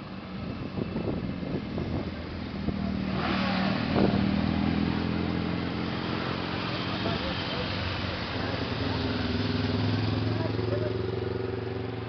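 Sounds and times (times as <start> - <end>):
motorcycles passing: 0.0 - 12.0.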